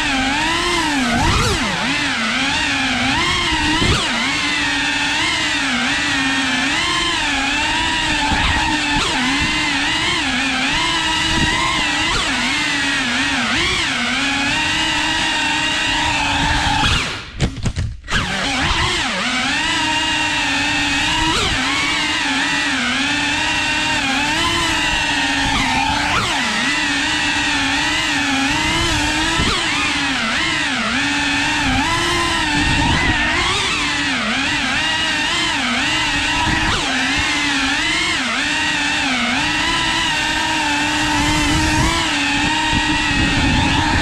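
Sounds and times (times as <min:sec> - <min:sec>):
quadcopter motors whining: 0:00.0 - 0:44.0.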